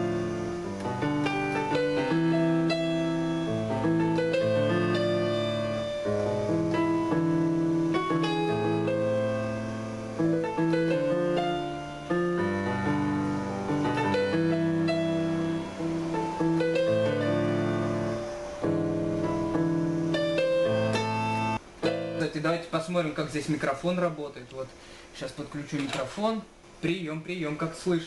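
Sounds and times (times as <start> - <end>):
keyboard playing piano chords: 0.0 - 23.5.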